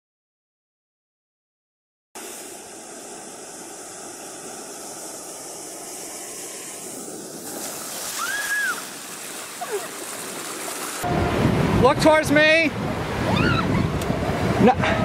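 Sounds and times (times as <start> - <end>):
surf washing on sandy beach: 2.2 - 15.0.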